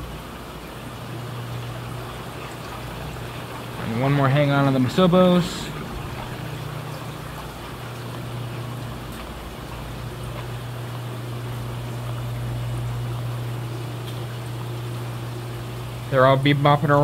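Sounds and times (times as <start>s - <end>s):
pump humming: 0.0s - 17.0s
water trickling: 0.0s - 17.0s.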